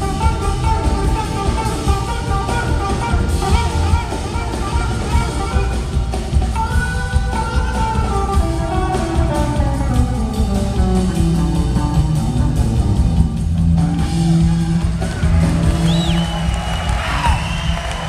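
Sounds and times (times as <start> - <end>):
live soul-rock band playing: 0.0 - 18.0.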